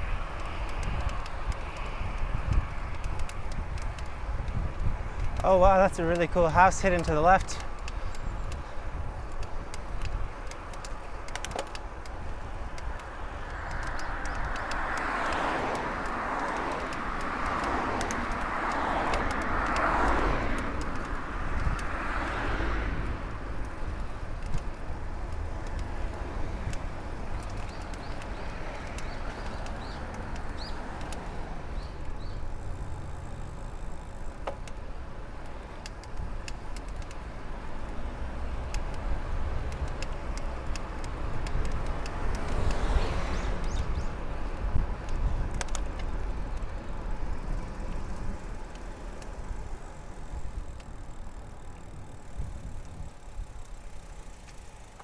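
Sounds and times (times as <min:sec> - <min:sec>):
wind buffeting microphone: 0:00.0 - 0:34.4, 0:40.6 - 0:53.9
motor vehicle passing: 0:00.0 - 0:55.0.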